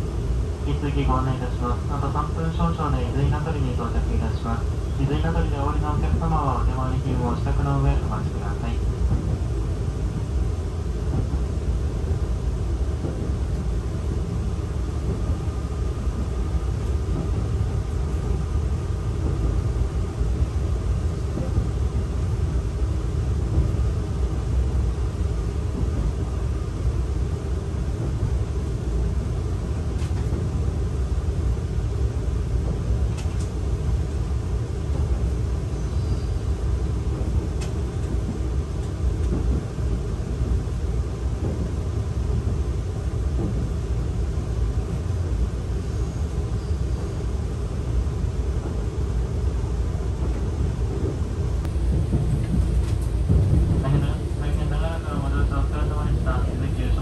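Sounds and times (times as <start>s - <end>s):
train rumbling from inside: 0.0s - 57.0s.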